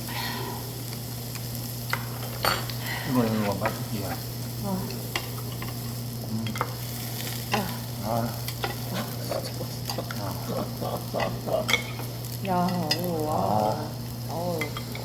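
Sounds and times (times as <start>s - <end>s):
constant low hum: 0.0s - 15.0s
meat sizzling on grill: 0.0s - 15.0s.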